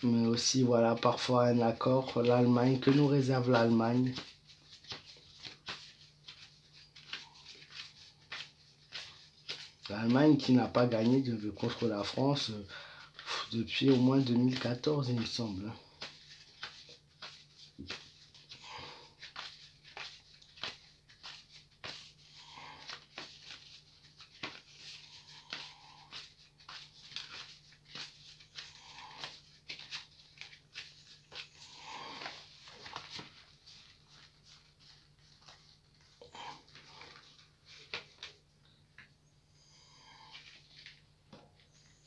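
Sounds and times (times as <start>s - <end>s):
cards spread across cloth: 0.0s - 39.2s, 39.9s - 42.0s
cards being shuffled: 1.2s - 39.1s.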